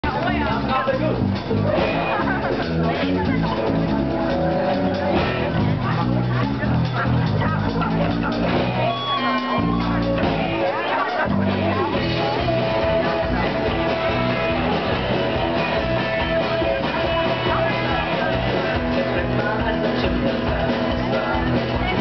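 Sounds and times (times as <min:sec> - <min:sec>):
punk rock band playing: 0:00.0 - 0:22.0.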